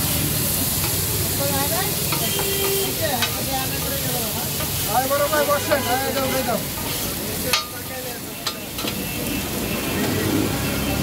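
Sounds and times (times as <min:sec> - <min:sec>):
meat sizzling: 0:00.0 - 0:11.0.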